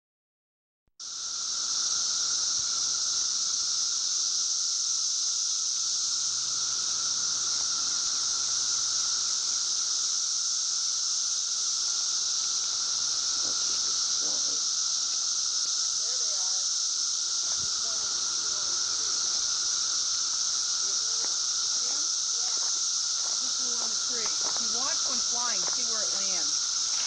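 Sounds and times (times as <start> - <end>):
cicadas high-pitched drone: 1.0 - 27.0.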